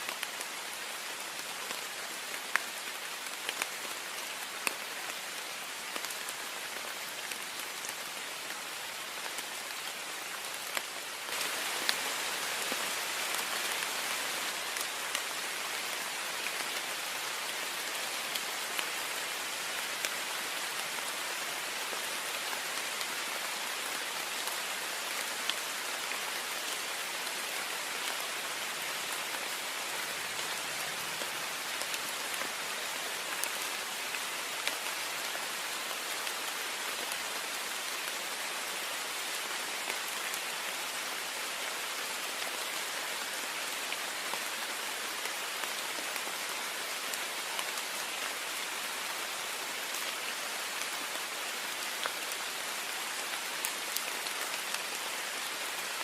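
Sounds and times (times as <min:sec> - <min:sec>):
heavy rain against a window: 0:00.0 - 0:56.0.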